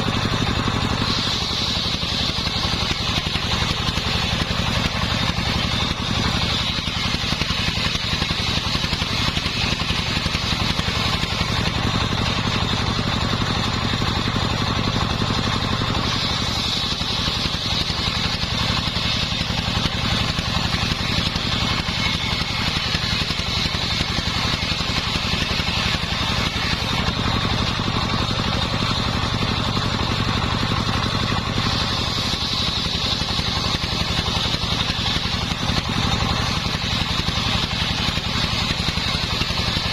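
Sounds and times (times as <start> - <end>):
engine droning: 0.0 - 39.9
saw blade whining through wood: 0.0 - 39.9.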